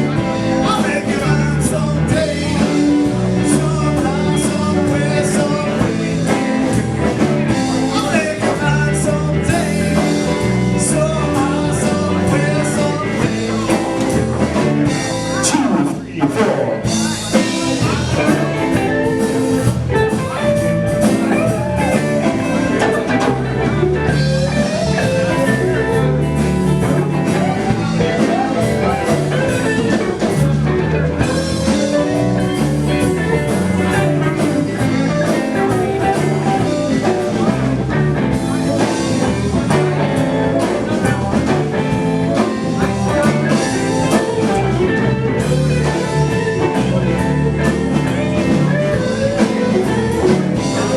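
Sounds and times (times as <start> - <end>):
live blues band playing: 0.0 - 50.9.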